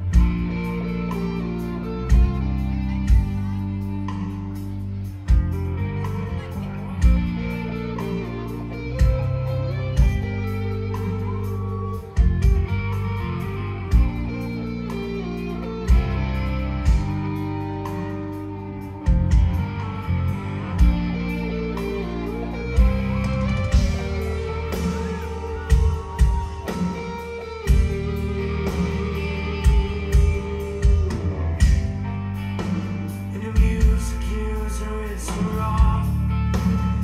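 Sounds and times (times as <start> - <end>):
bass guitar: 0.0 - 37.0
electric guitars: 0.0 - 37.0.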